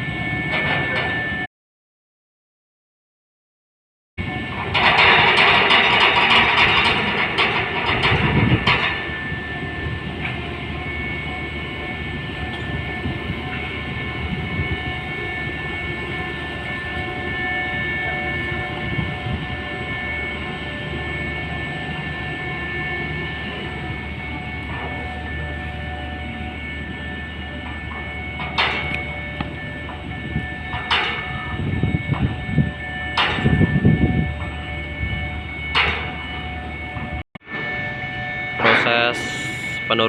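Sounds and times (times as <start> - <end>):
ferry machinery drone: 0.0 - 1.5, 4.2 - 40.0
whining tones: 4.2 - 40.0.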